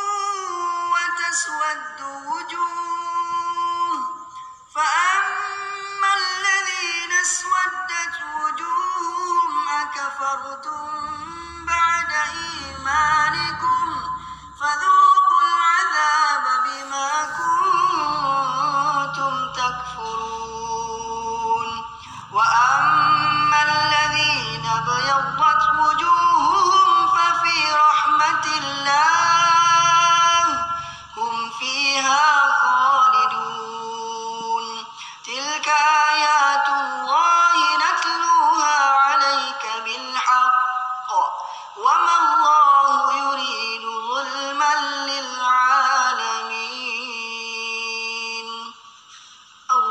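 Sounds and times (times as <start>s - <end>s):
man chanting through microphone: 0.0s - 48.8s
man reciting melodically: 0.0s - 48.8s.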